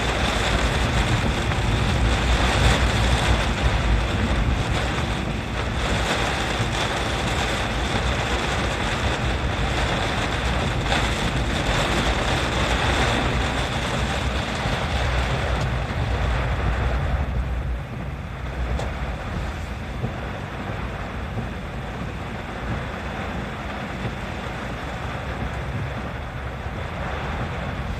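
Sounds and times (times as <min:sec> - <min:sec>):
strong wind buffeting microphone: 0:00.0 - 0:27.9.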